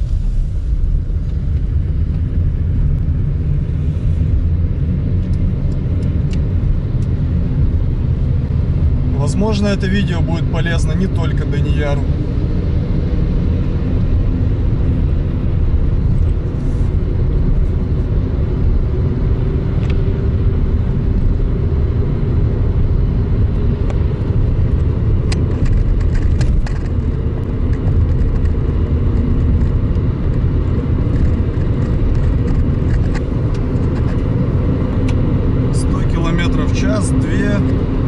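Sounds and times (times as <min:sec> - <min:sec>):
car engine drone in cabin: 0:00.0 - 0:38.0
road noise: 0:00.0 - 0:38.0.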